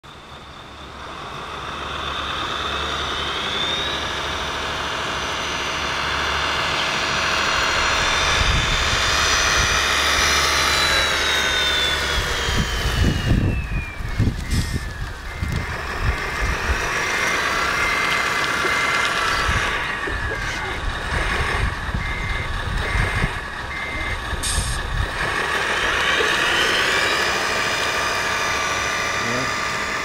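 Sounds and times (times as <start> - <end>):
electric motor and gearbox whine: 0.1 - 30.0.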